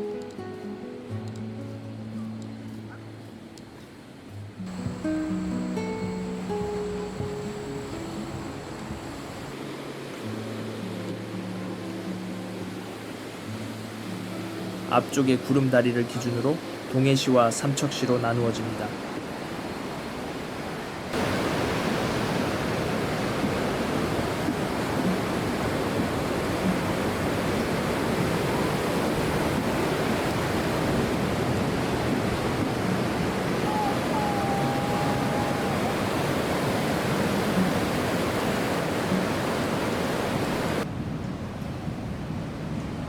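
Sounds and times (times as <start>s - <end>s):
sea surf breaking: 3.8s - 41.0s.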